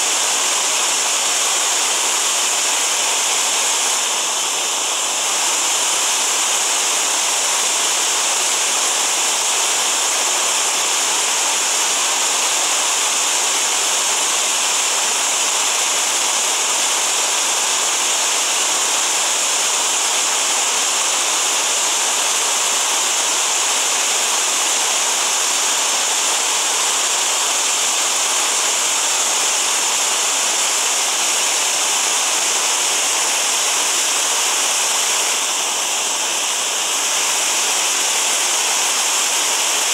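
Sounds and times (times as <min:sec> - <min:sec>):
whitewater rushing over boulders: 0:00.0 - 0:39.9.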